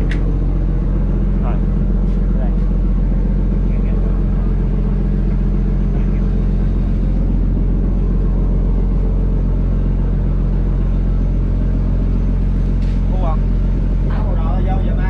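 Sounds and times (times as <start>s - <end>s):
boat diesel engine droning: 0.0s - 15.0s.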